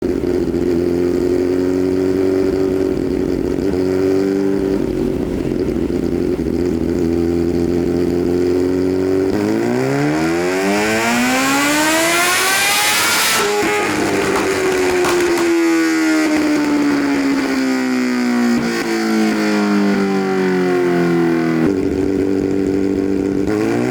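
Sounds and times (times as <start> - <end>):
motorcycle engine on a dyno: 0.0 - 14.3, 15.7 - 23.9.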